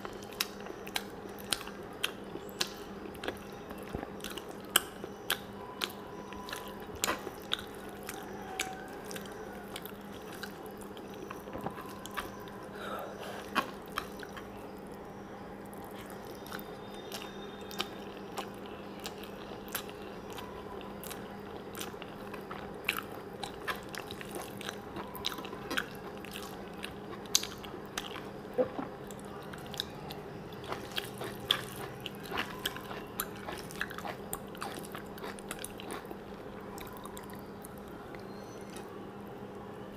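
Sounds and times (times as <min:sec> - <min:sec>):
person chewing food: 0:00.0 - 0:38.9
steady low hum: 0:00.0 - 0:39.9.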